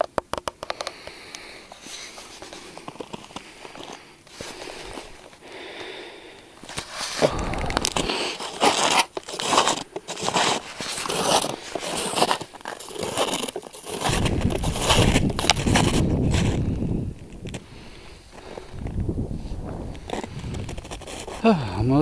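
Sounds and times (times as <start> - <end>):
footsteps crunching on snow: 1.8 - 5.4, 6.6 - 18.8, 19.4 - 21.4.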